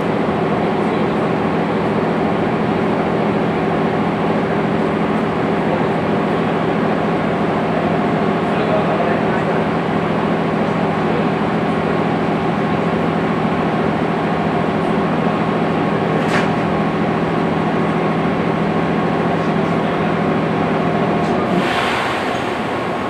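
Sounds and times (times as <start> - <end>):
electric train machinery hum: 0.0 - 23.0.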